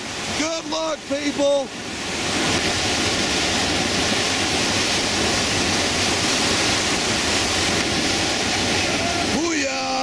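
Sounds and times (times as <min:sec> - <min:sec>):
whitewater roaring through rapids: 0:00.0 - 0:10.0.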